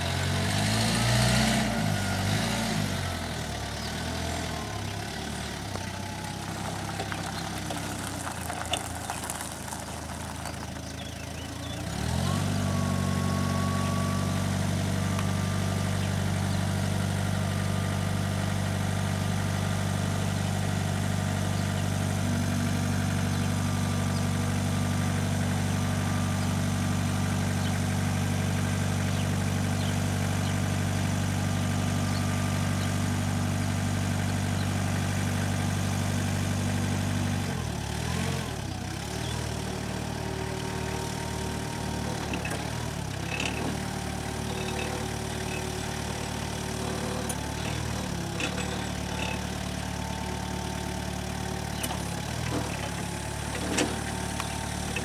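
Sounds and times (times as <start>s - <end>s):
diesel forklift engine running: 0.0s - 55.0s.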